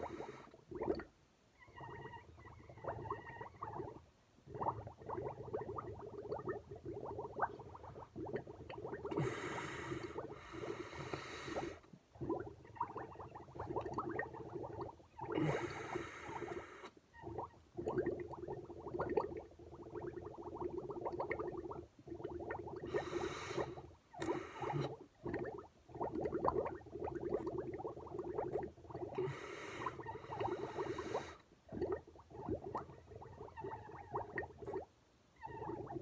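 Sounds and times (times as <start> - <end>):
milk bubbling through a straw: 0.0 - 36.0.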